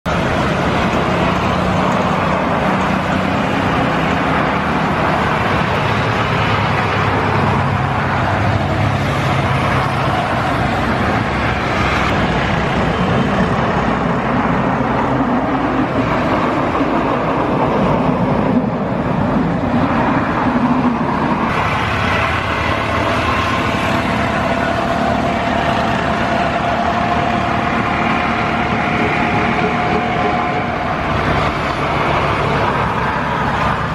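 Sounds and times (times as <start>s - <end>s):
engine noise with rushing hiss: 0.1s - 33.9s.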